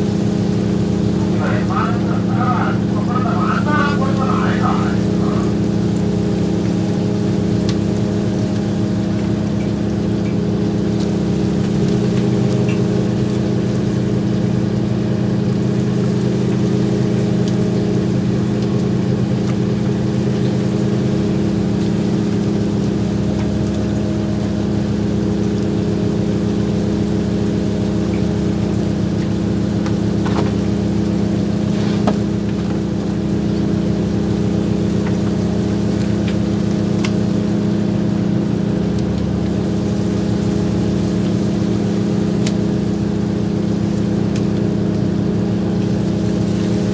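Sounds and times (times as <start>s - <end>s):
boat engine drone: 0.0s - 46.9s
low engine tone: 0.0s - 46.9s.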